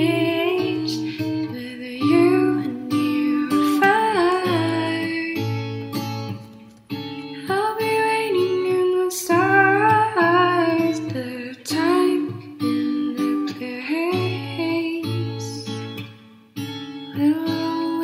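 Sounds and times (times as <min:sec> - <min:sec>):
person singing: 0:00.0 - 0:05.6, 0:07.4 - 0:16.0, 0:17.2 - 0:18.0
gentle song with guitar: 0:00.0 - 0:18.0.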